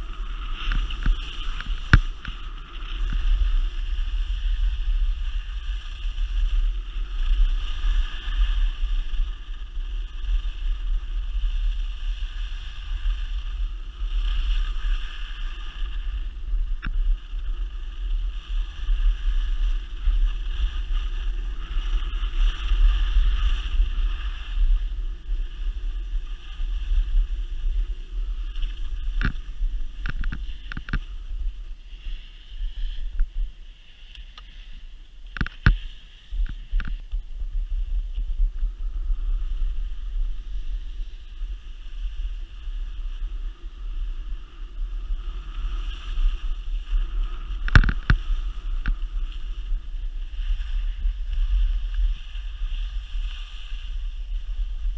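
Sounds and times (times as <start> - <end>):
skis scraping on snow: 0.0 - 54.9
wind buffeting microphone: 0.0 - 54.9.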